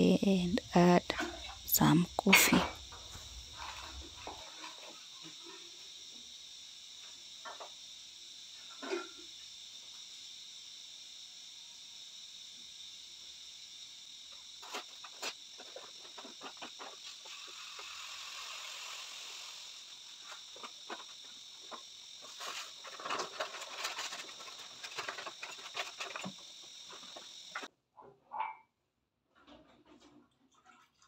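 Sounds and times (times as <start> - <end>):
high-pitched hiss: 0.0 - 27.7.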